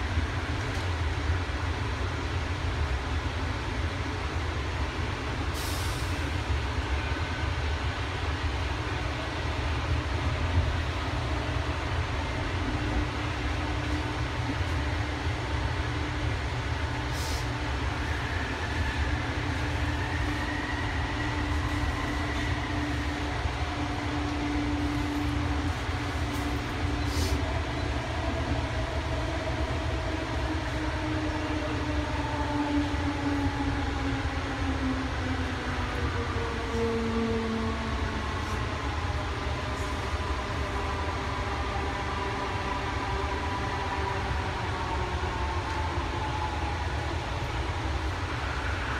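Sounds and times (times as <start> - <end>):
train low rumble with motor whine: 0.0 - 48.9.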